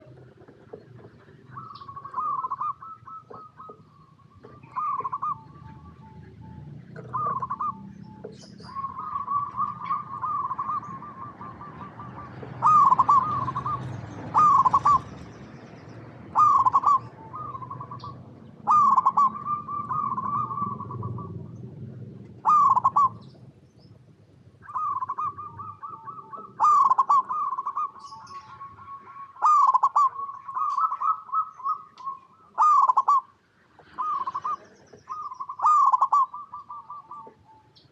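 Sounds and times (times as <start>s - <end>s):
dove cooing and trilling: 0.0s - 23.6s, 24.5s - 37.9s.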